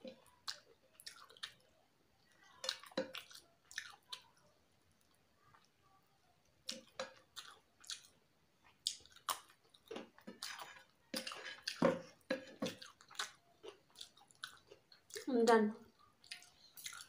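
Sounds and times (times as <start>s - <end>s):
close chewing with mouth clicks: 0.0s - 17.0s.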